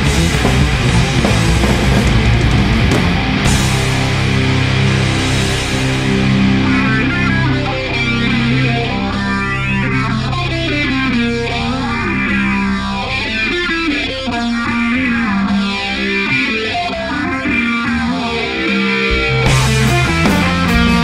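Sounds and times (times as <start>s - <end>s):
distorted electric guitar swirling: 0.0s - 21.0s
heavy rock band playing: 0.0s - 21.0s.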